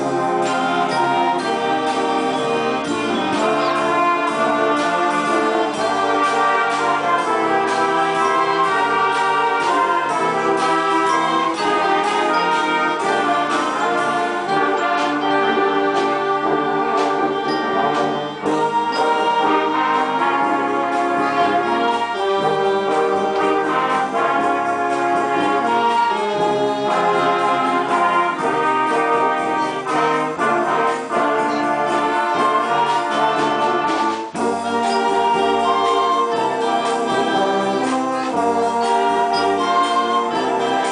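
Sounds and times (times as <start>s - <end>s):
concert band playing: 0.0s - 40.9s.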